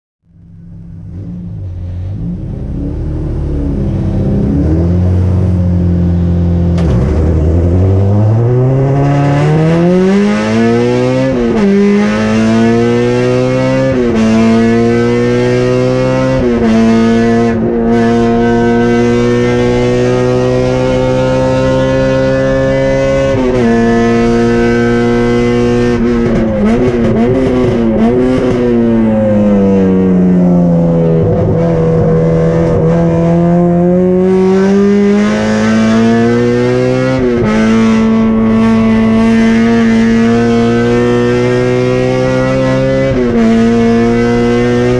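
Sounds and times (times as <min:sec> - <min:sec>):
car engine revving under acceleration: 0:00.4 - 0:44.9.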